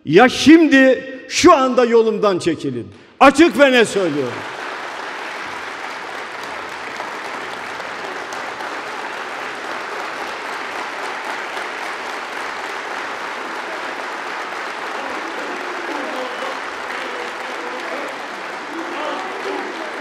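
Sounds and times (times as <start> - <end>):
audience applauding: 3.4 - 20.0.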